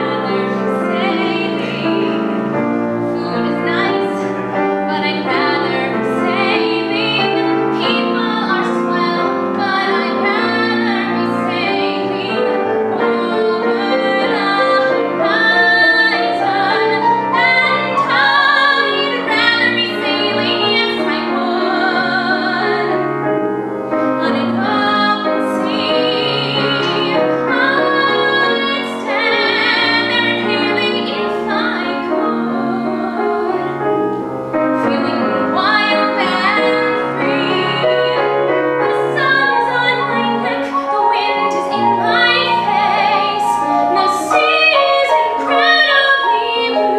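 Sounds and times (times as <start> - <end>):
woman singing: 0.0 - 23.0, 24.0 - 46.9
grand piano: 0.0 - 46.9.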